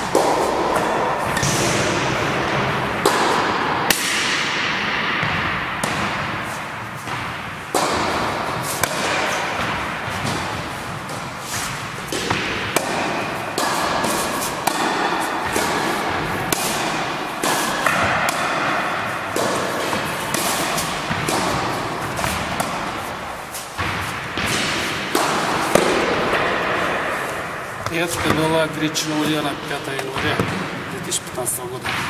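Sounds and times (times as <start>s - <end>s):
balls bouncing on wooden floor: 0.0s - 31.0s
tennis racket hitting balls: 0.0s - 31.0s, 31.6s - 32.0s.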